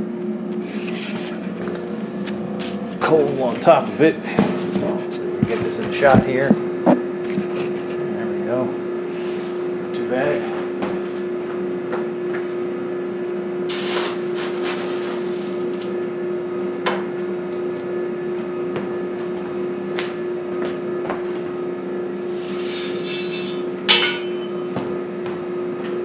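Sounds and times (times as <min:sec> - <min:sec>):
blower motor humming: 0:00.0 - 0:26.0.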